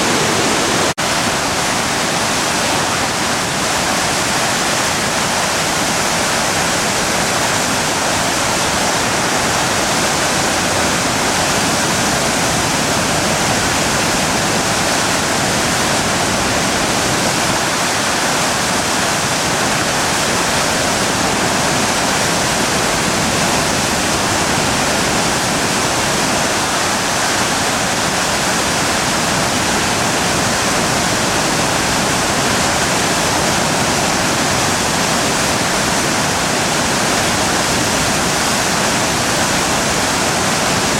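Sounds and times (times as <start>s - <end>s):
flood water rushing: 0.0s - 40.9s.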